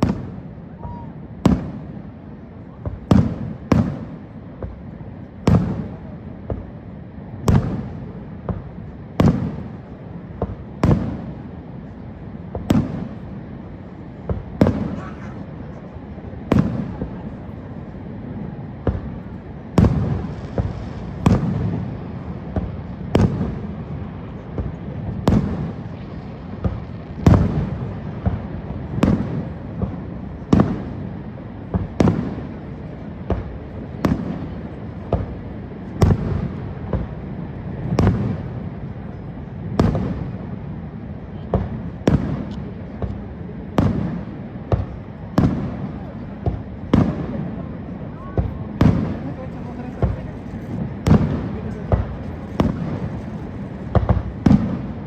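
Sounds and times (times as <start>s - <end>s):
fireworks bangs: 0.0s - 55.0s
steady low rumble: 0.0s - 55.0s.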